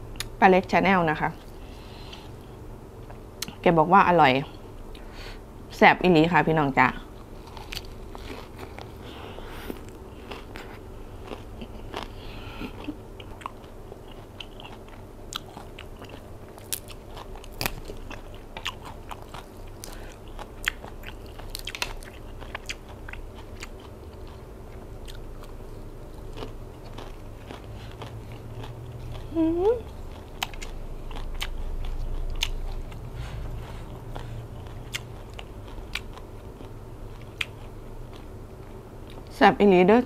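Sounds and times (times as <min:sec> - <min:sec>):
person chewing crunchy vegetables: 0:07.0 - 0:39.3.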